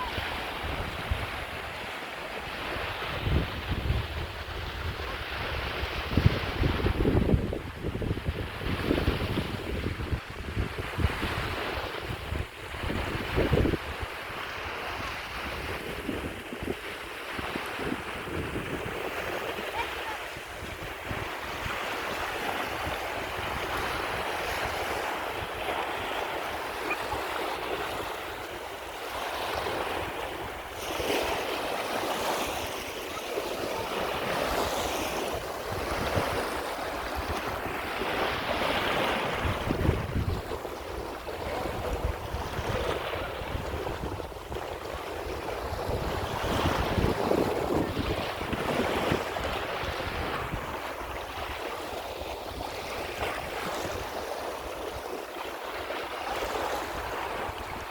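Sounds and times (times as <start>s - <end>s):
lake waves breaking: 0.0s - 57.9s
wind on microphone: 0.0s - 57.9s.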